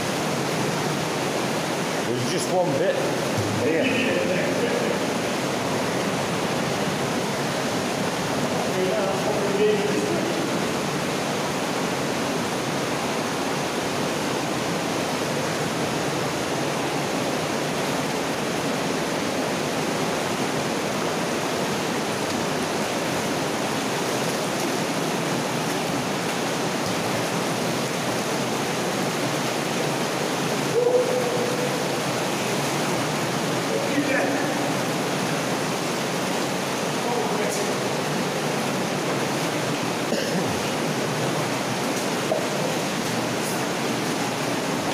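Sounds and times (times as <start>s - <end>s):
water rushing through culvert: 0.0s - 44.9s.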